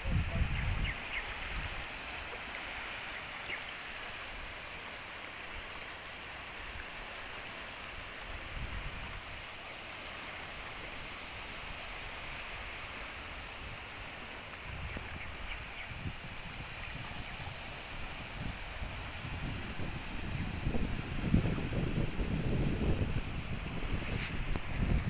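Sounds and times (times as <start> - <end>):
small waves washing onto beach: 0.0 - 25.0.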